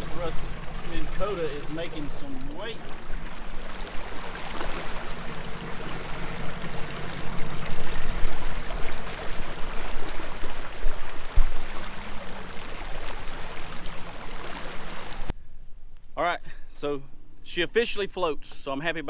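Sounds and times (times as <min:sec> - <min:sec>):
water churning and splashing: 0:00.0 - 0:15.3
faint motor hum: 0:00.0 - 0:16.0.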